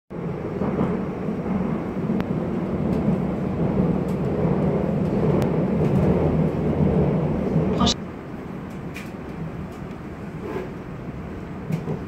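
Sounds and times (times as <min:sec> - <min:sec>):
train rumble inside passenger car: 0:00.1 - 0:12.0.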